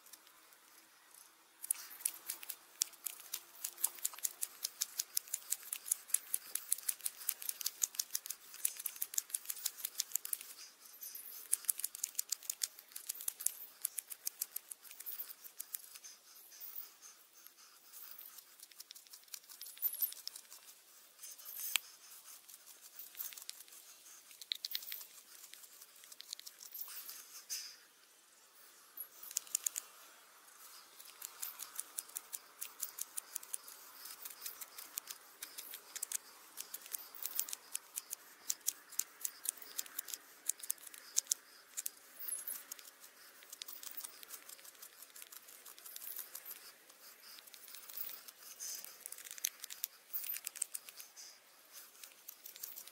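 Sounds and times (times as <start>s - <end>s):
knife shaving wood: 1.6s - 27.8s, 29.0s - 29.9s, 30.5s - 52.9s.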